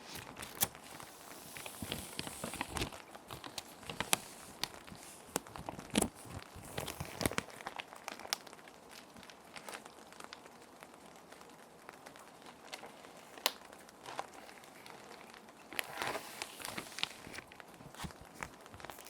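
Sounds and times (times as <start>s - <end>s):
faint steady rain: 0.0s - 19.0s
plastic sheet protectors crinkling: 0.0s - 19.0s.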